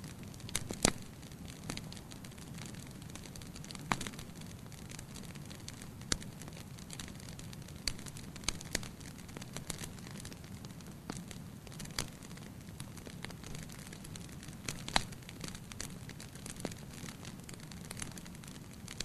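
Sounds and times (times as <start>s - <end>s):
fire crackling in a fireplace: 0.0s - 19.0s.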